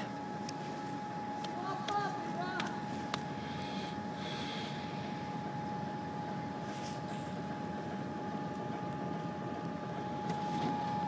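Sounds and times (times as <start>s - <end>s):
constant engine whine: 0.0s - 11.0s
diesel locomotive engine rumbling: 0.0s - 11.0s.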